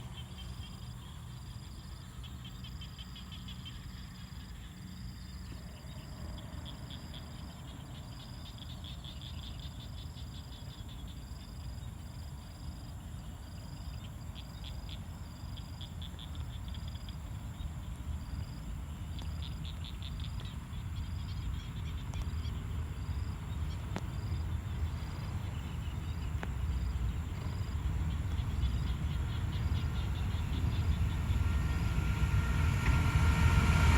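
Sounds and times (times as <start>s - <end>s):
approaching train rumble: 0.0s - 33.9s.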